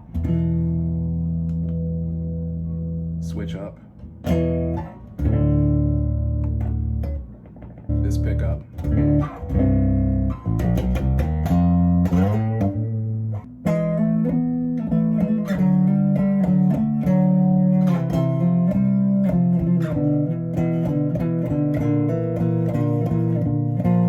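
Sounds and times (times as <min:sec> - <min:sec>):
electric bass melodic line: 0:00.0 - 0:24.0.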